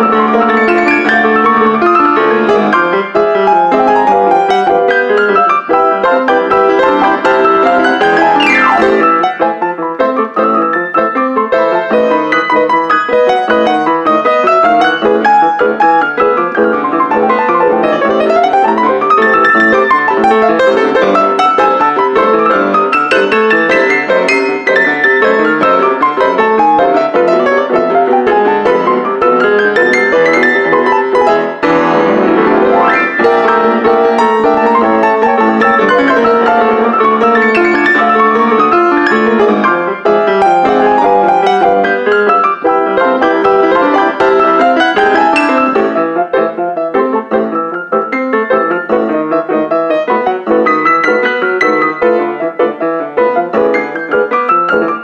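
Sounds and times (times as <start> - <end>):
grand piano fast runs: 0.0 - 55.0.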